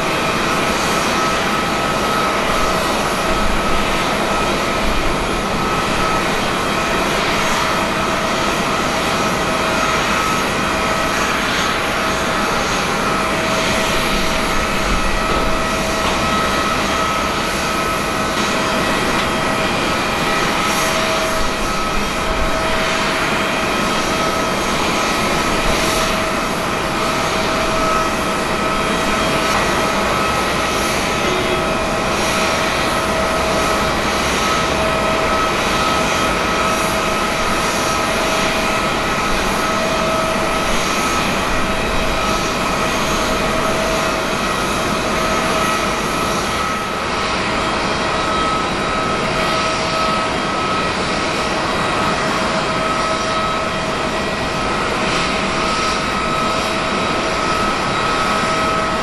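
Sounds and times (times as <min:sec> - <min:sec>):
jet engine roar with whine: 0:00.0 - 0:59.0.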